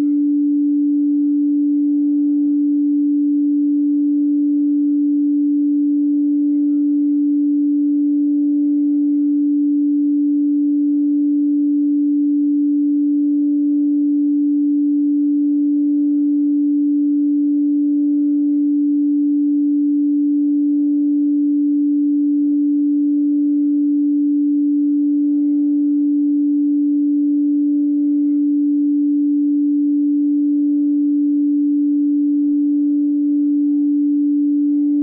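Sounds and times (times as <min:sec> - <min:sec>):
singing bowl tone: 0:00.0 - 0:35.0.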